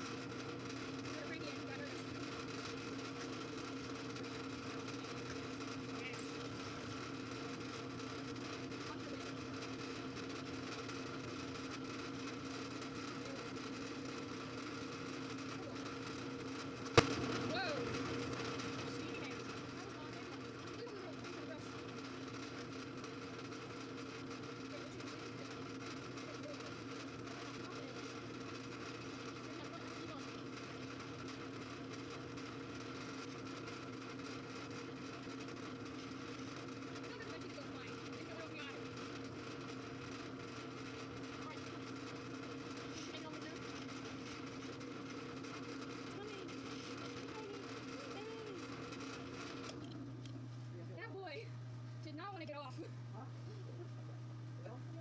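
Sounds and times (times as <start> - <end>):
drill bit drilling metal: 0.0 - 50.3
drill press motor humming: 0.0 - 55.0.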